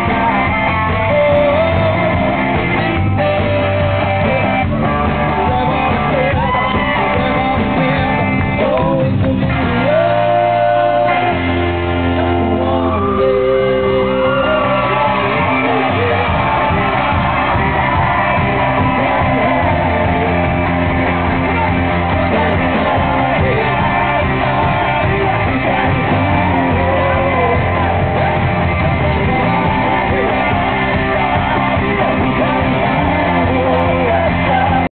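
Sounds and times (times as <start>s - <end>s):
amplified guitars: 0.0s - 34.9s
person singing: 0.0s - 34.9s
drums: 0.0s - 35.0s.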